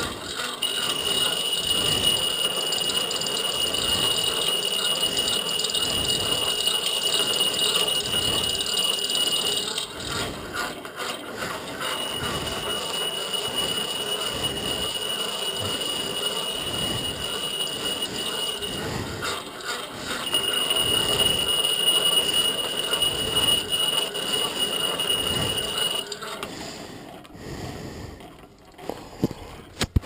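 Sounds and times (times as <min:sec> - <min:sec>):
grinder squealing on steel: 0:00.0 - 0:26.5.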